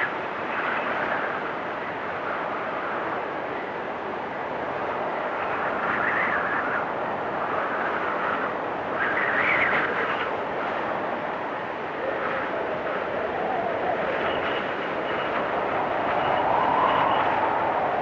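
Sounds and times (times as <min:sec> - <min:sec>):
blizzard wind whistling in gusts: 0:00.0 - 0:18.0.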